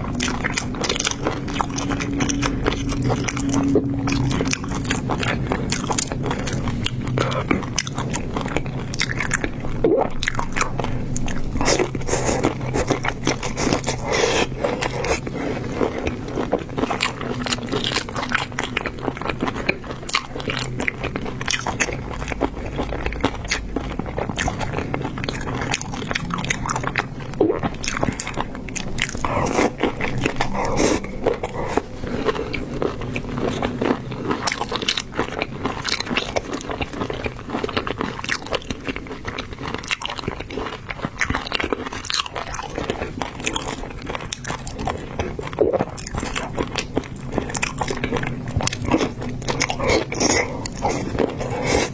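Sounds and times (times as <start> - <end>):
person chewing and crunching: 0.0 - 51.9.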